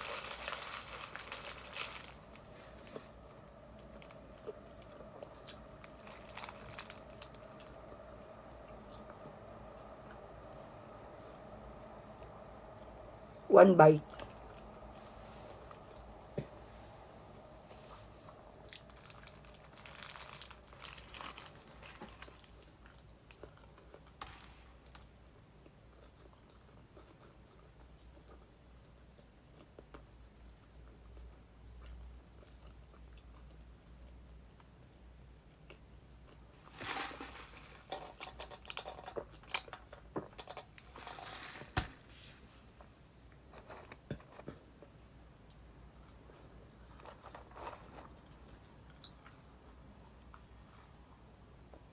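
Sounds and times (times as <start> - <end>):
chewing and crunching food: 0.0 - 10.7, 18.0 - 41.2, 42.7 - 51.9.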